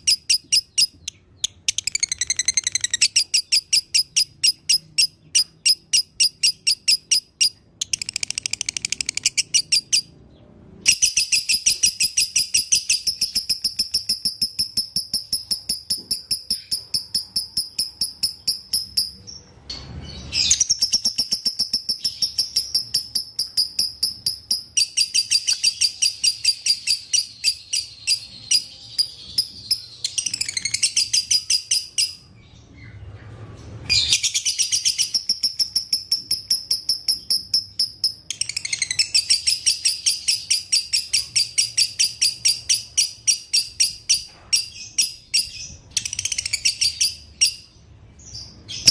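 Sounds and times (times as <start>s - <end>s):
bird chattering trill: 0.0s - 10.1s, 10.9s - 19.5s, 20.4s - 32.2s, 34.0s - 47.7s.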